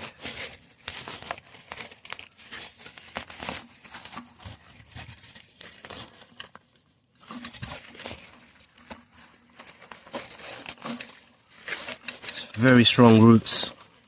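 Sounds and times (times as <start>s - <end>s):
plant crunching and tearing: 0.0s - 14.0s.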